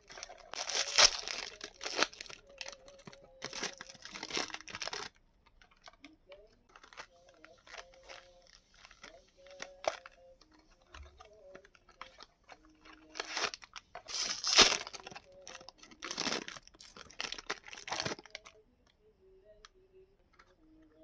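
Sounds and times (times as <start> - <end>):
plastic packaging crinkling and tearing: 0.0 - 18.6.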